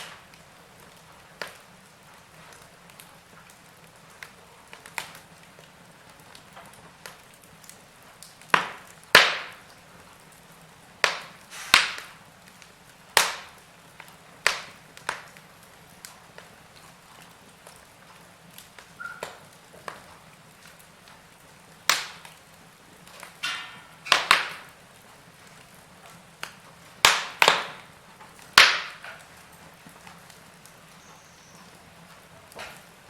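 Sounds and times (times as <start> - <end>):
faint steady hiss: 0.0 - 33.0
wood fire crackling: 0.0 - 33.0.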